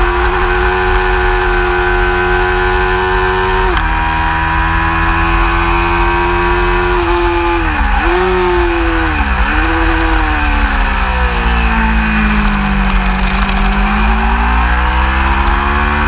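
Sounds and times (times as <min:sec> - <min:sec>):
racing motorcycle engine high revs: 0:00.0 - 0:16.0.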